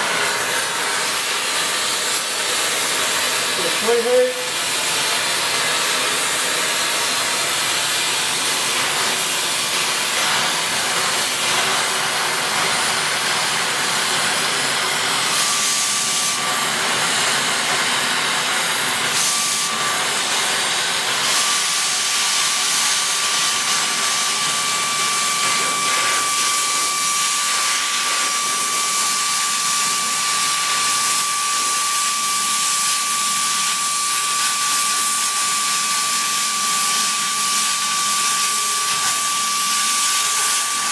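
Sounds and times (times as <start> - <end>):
cutting torch flame hissing: 0.0 - 40.9.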